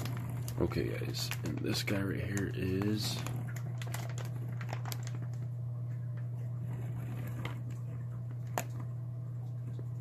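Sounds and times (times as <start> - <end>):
plastic water bag crinkling: 0.0 - 8.9
steady low hum: 0.0 - 10.0.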